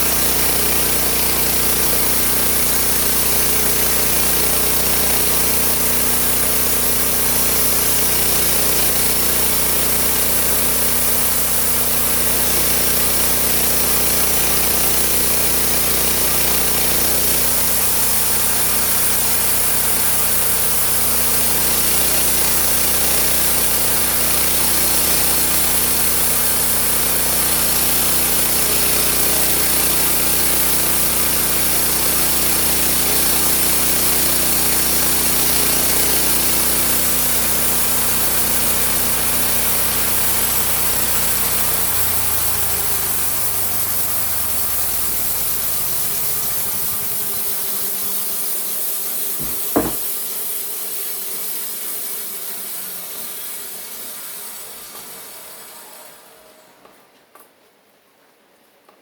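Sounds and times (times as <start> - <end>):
sawmill engine and saw running: 0.0 - 57.0.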